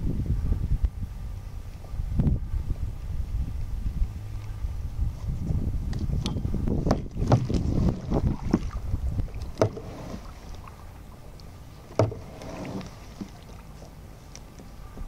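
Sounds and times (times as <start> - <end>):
wind rumble on microphone: 0.0 - 15.0
kayak paddling: 1.1 - 15.0.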